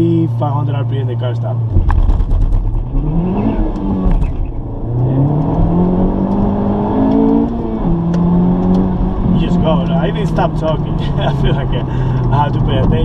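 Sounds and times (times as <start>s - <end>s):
car engine accelerating hard: 1.6s - 13.0s.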